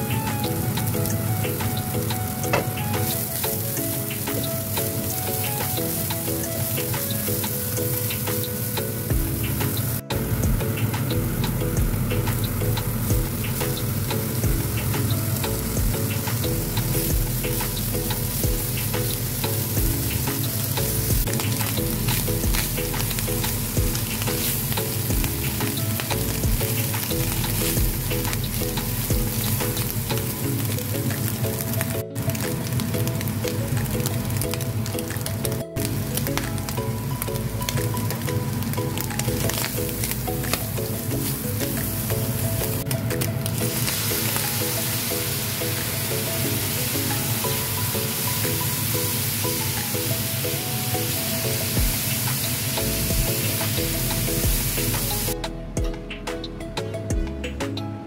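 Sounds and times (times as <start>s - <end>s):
vegetables sizzling in hot oil: 0.0s - 55.4s
background music: 0.0s - 58.0s.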